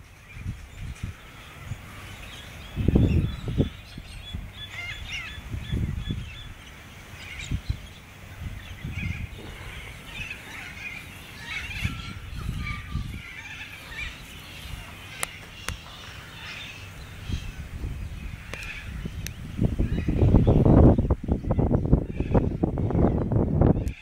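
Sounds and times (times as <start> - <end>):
birds chirping: 0.0 - 24.0
wind buffeting microphone: 0.0 - 24.0.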